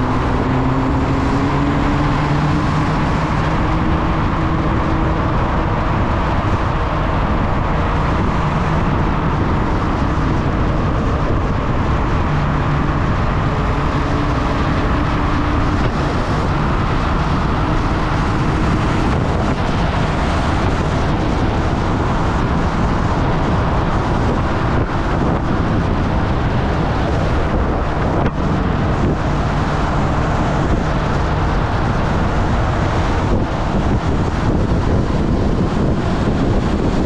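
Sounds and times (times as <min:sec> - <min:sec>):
motorcycle engine cruising: 0:00.0 - 0:37.0
wind rush on microphone: 0:00.0 - 0:37.0.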